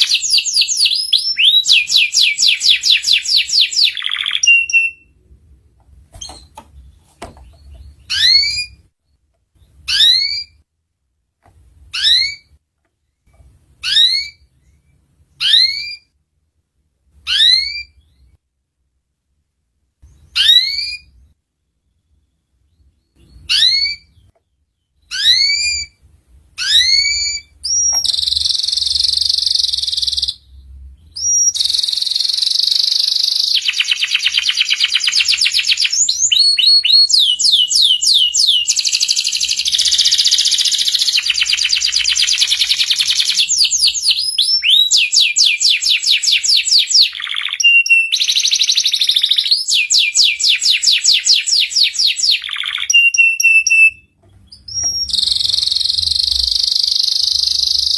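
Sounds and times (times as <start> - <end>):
canary singing: 0.0 - 5.2, 6.1 - 8.9, 9.6 - 10.6, 11.8 - 12.6, 13.8 - 16.1, 17.1 - 18.4, 20.0 - 21.3, 21.9 - 57.9.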